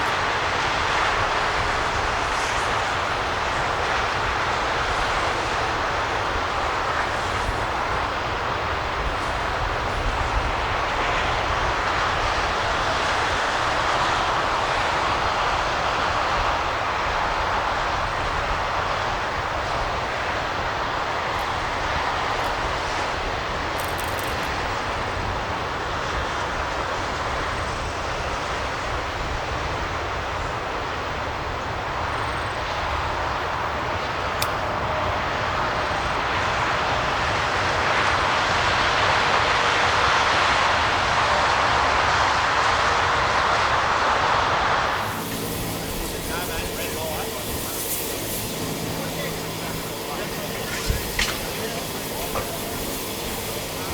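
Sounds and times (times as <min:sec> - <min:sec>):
rushing vehicle noise: 0:00.0 - 0:53.9.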